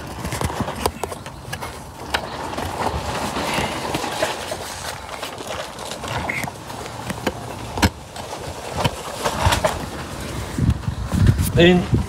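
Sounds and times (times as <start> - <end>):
scraping and rustling: 0.0 - 12.0.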